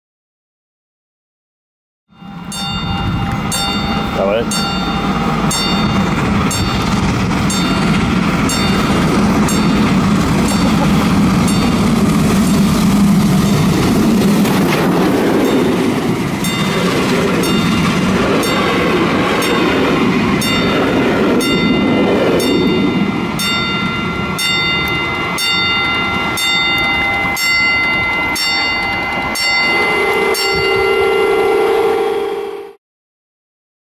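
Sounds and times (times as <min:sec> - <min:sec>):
high ringing of wheels and rails: 0:02.1 - 0:32.5
low train tone: 0:02.1 - 0:32.8
steam locomotive rumbling past: 0:02.2 - 0:32.8
train wheels clicking over rail joints: 0:03.0 - 0:30.8.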